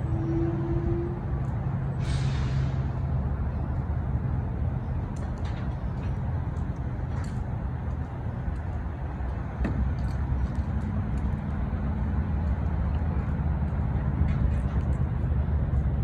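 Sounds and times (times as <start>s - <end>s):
rumble of road traffic and trucks: 0.0s - 16.0s.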